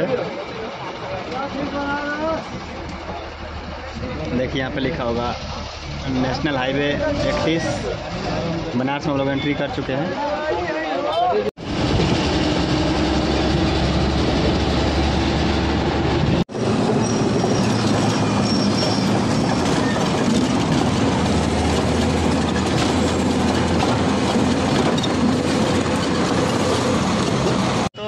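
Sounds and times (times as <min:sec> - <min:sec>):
bus engine and road noise: 0:00.0 - 0:28.0.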